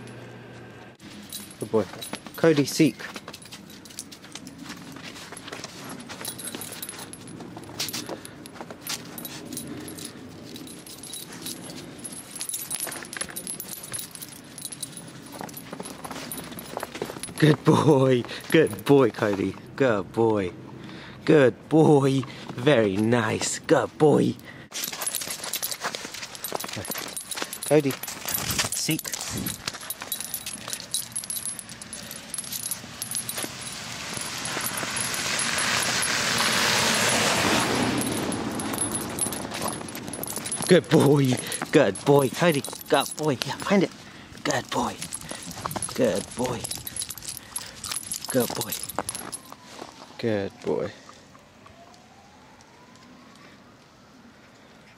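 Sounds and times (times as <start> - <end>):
metal rings and clips jangling: 1.0 - 19.6, 24.2 - 49.9.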